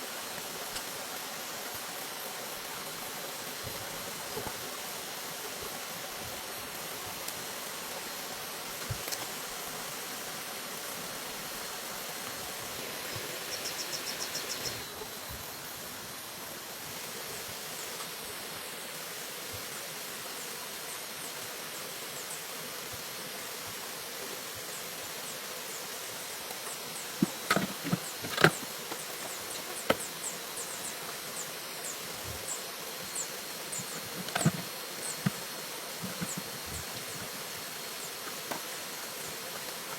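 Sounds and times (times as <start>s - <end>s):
insect hiss: 0.0s - 39.9s.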